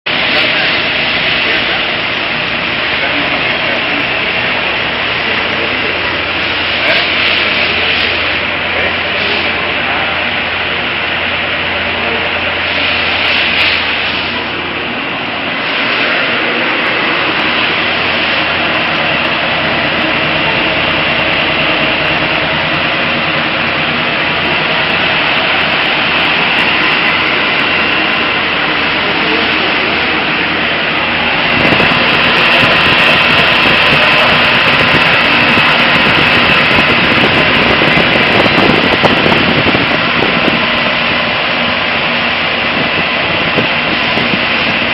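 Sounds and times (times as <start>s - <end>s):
dry-cleaning machine running: 0.1s - 44.9s.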